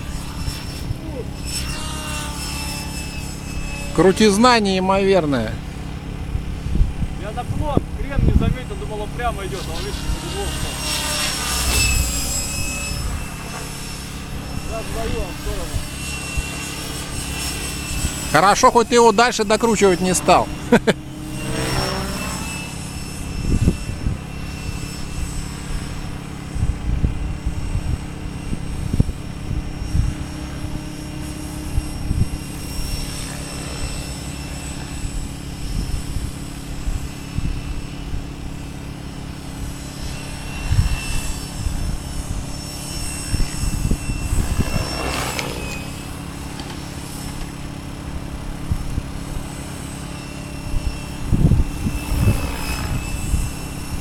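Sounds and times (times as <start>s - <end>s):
model helicopter whine: 0.0s - 54.0s.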